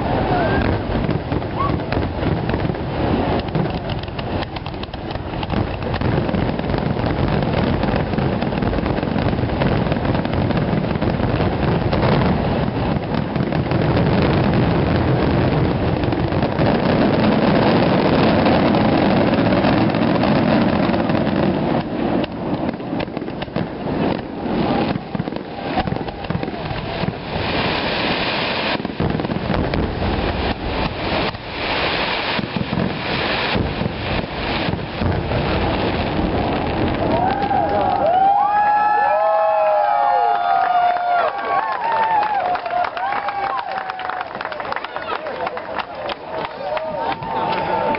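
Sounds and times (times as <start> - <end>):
hissing firework bursts: 0.0 - 40.2
firework bangs: 0.0 - 47.9
fireworks continuous rumble: 0.0 - 47.9.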